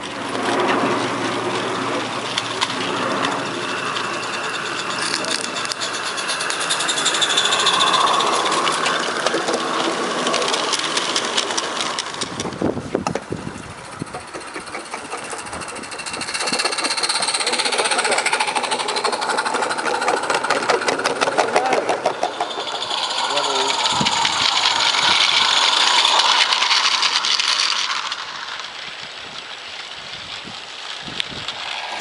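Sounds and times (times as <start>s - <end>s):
small steam locomotive chuffing: 0.0s - 32.0s
wheel clicks: 2.0s - 32.0s.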